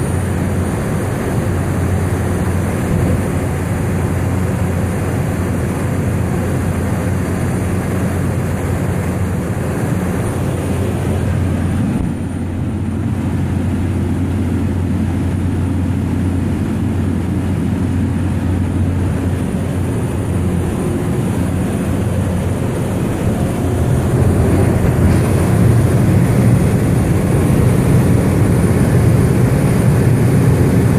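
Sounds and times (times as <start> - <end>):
small aircraft engine droning: 0.0 - 30.9.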